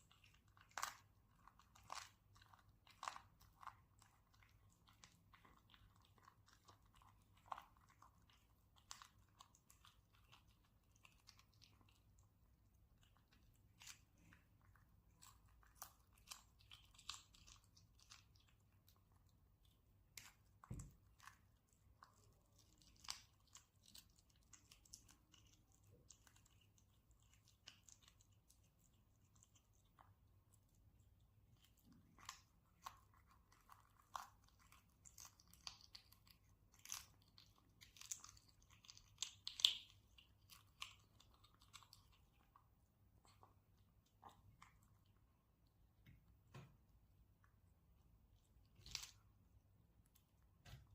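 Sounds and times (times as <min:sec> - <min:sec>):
kitten chewing and crunching: 0:00.0 - 0:50.9.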